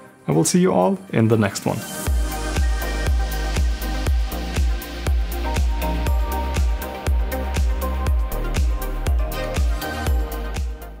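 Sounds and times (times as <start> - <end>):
kick drum beat: 2.1 - 11.0
sustained bass line: 2.1 - 11.0.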